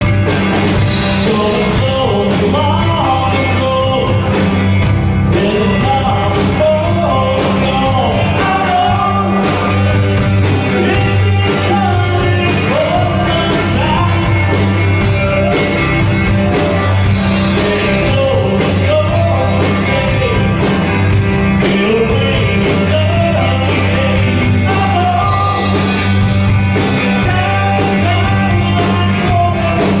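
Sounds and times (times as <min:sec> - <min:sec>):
rock song with vocal: 0:00.0 - 0:30.0.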